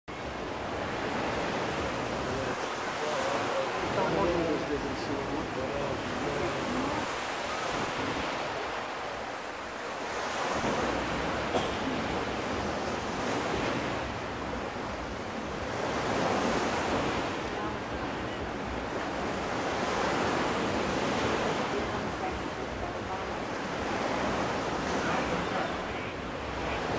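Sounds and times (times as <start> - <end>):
waves washing onto beach: 0.1 - 26.9.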